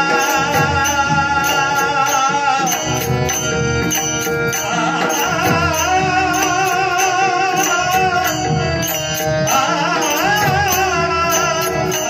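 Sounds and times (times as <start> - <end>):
hand drum and percussion beat: 0.0 - 12.0
instrumental drone: 0.0 - 12.0
man singing into a microphone: 0.0 - 12.0.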